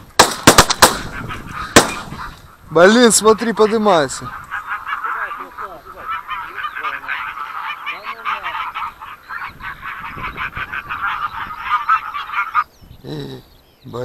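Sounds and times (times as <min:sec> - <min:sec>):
geese honking: 0:00.5 - 0:12.7.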